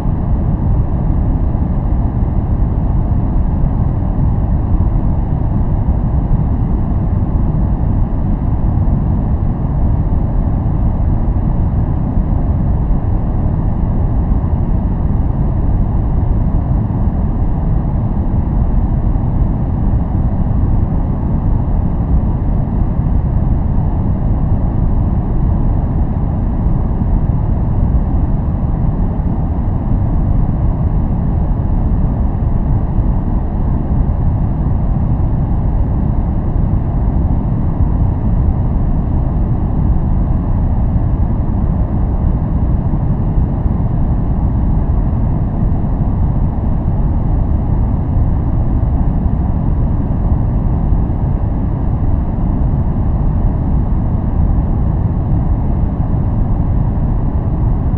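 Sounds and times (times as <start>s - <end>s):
deep rumbling white noise: 0.0s - 57.9s.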